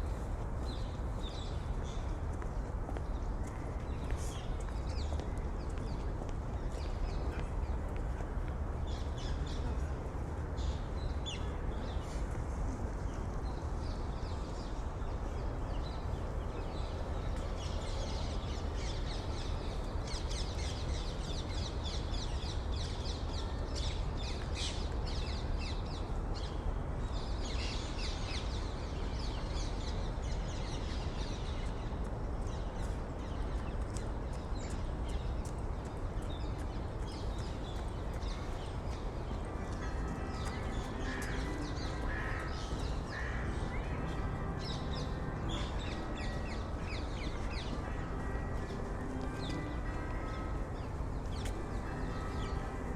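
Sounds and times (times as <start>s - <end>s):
low city hum: 0.0s - 52.9s.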